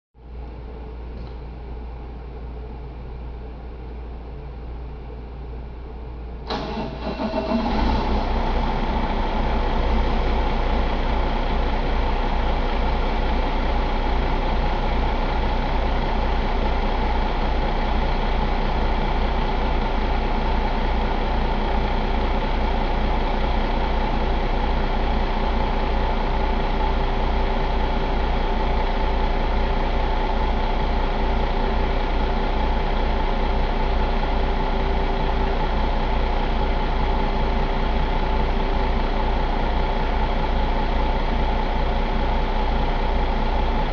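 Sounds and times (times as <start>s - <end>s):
diesel engine idling: 1.7s - 43.9s.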